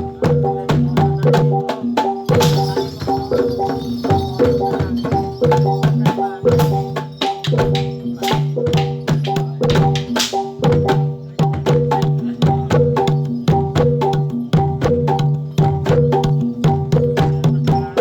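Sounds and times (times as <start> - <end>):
gamelan music: 0.0 - 18.0
metallophones ringing: 0.0 - 18.0.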